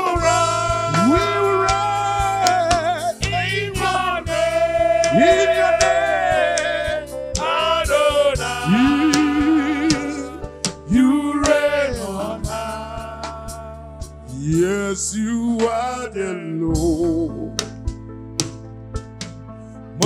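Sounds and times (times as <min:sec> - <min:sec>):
gospel worship song: 0:00.0 - 0:19.0, 0:19.8 - 0:20.0.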